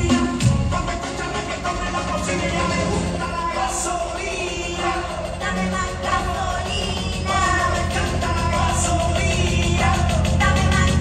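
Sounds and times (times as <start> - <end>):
dance song over sound system: 0.0 - 11.0.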